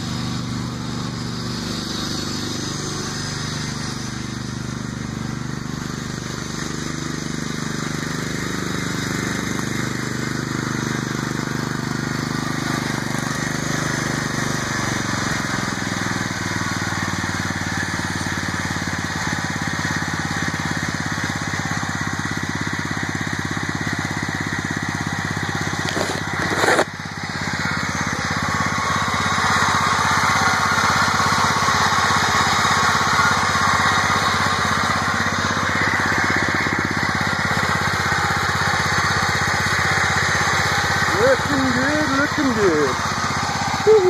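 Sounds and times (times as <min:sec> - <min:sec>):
lawn tractor engine running: 0:00.0 - 0:44.0.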